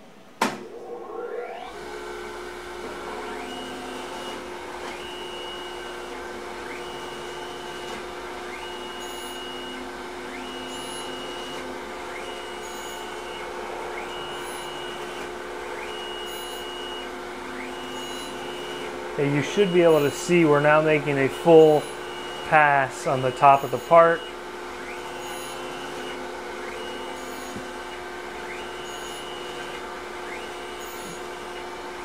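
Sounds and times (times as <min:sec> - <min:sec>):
grinding wheel whine: 0:00.6 - 0:32.0.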